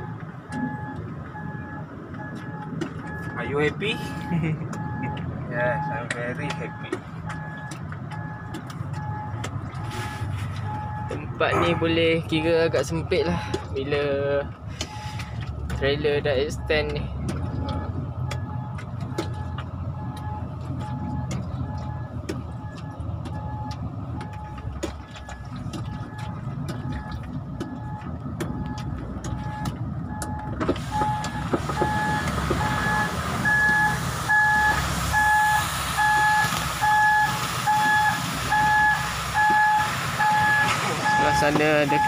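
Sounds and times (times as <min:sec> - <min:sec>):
reversing alarm beeping: 0:00.0 - 0:11.9, 0:14.8 - 0:42.0
truck diesel engine idling: 0:00.0 - 0:42.0.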